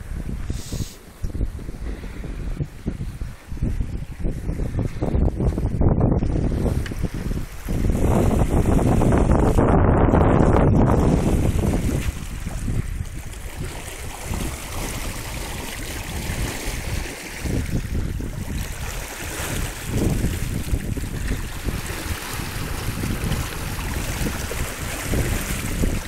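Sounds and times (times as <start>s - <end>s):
water splashing along hull: 0.0s - 26.0s
wind buffeting microphone: 0.0s - 26.0s.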